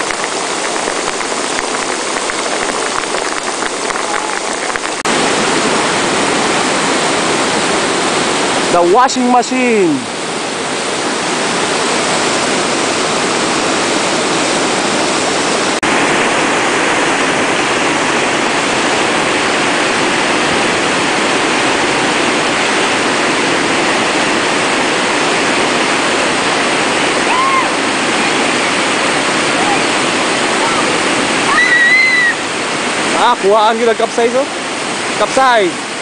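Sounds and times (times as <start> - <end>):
river rapids rushing: 0.0 - 36.0.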